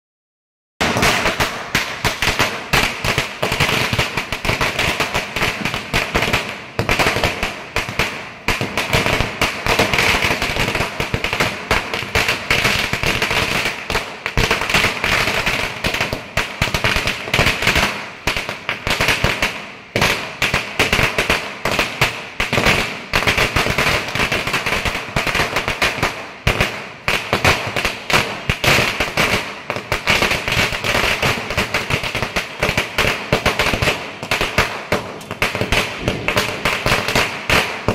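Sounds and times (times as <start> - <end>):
firecrackers banging: 0.8 - 37.9.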